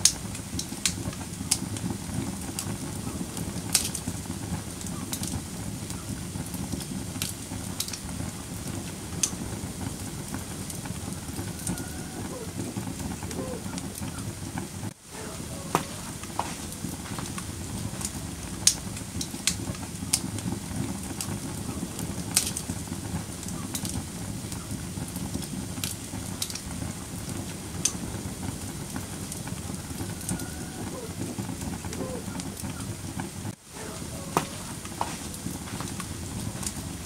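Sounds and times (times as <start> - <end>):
fire pops: 0.0 - 37.0
wood fire crackling: 0.0 - 37.0.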